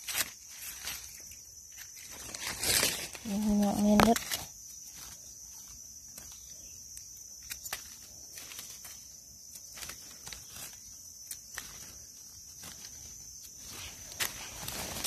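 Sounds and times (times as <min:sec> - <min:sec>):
dry leaves crackling: 0:00.0 - 0:15.0
high-pitched insect drone: 0:00.0 - 0:15.0.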